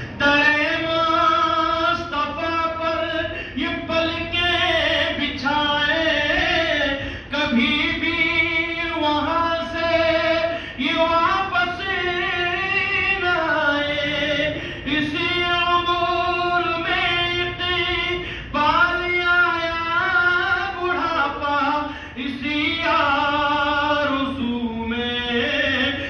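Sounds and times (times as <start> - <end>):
man chanting through loudspeaker: 0.0 - 26.0.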